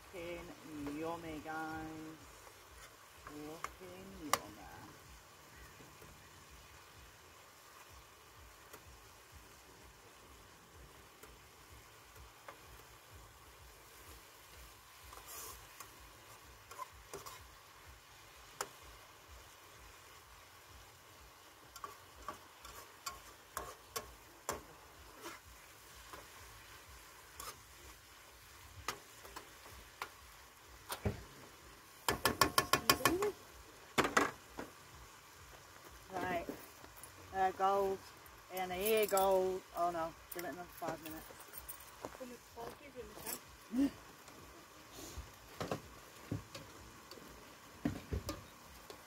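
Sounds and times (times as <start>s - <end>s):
faint sizzle: 0.0s - 49.0s.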